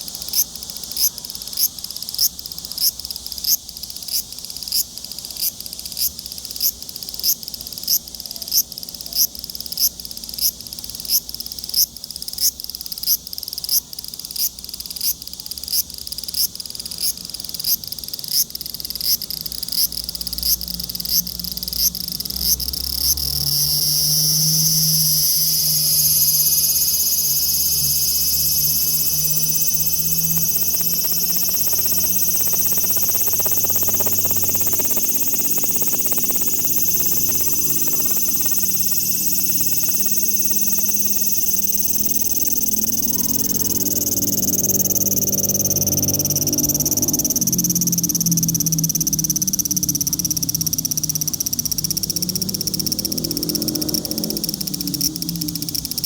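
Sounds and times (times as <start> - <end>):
cicada buzzing: 0.0 - 56.0.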